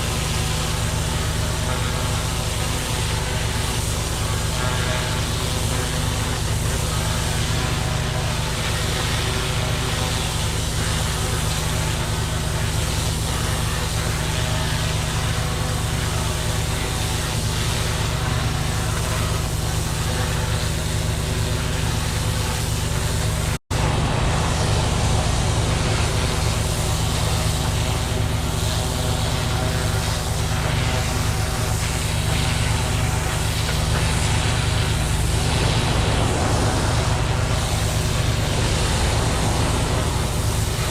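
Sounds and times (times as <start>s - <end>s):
pressure washer engine hum: 0.0s - 40.9s
water jet hissing: 0.0s - 40.9s.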